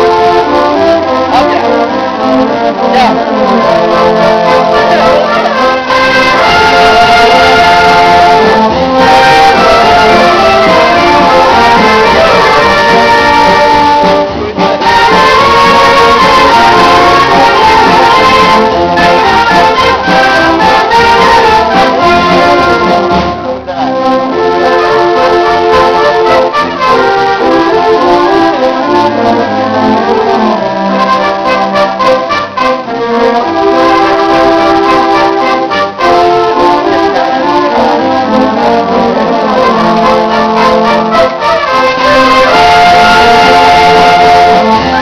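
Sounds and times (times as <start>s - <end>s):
marching wind band playing: 0.0s - 45.0s.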